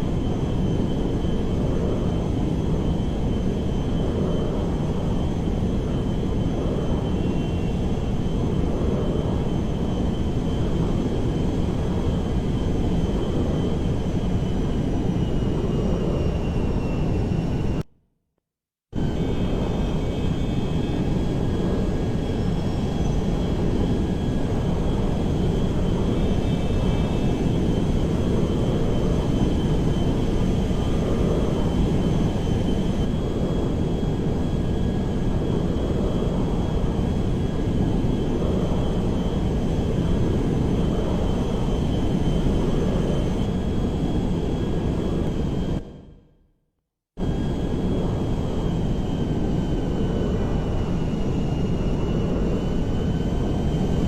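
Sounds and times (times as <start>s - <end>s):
airplane drone: 0.0s - 17.8s, 19.0s - 46.3s, 47.2s - 54.0s.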